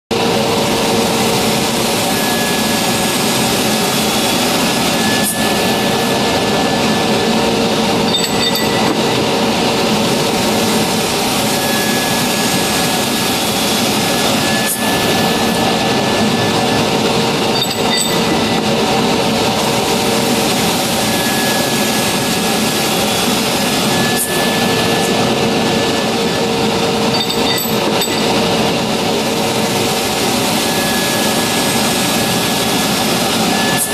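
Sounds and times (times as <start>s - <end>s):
high whine: 0.1s - 33.9s
circular saw cutting metal: 0.3s - 33.9s.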